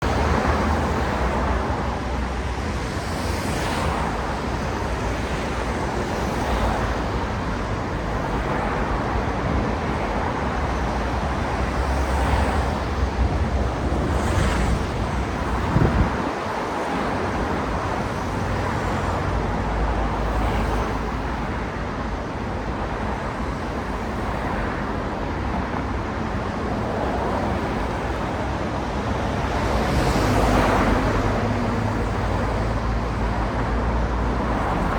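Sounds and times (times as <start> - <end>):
cars passing: 0.0 - 34.9
road traffic rumble: 0.0 - 34.9.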